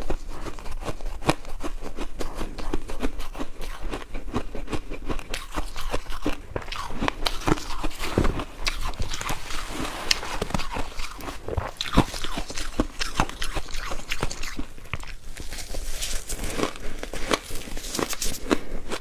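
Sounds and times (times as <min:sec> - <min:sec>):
ice crunching between teeth: 0:00.0 - 0:19.0.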